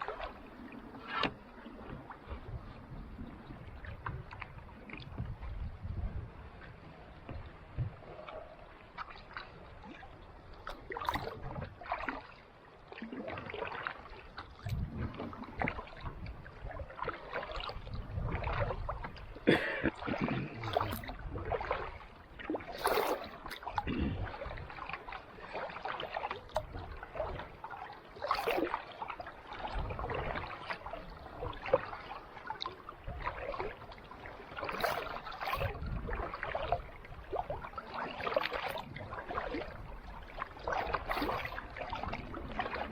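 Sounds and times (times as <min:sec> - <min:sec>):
paddle splashing water: 0:00.0 - 0:42.9.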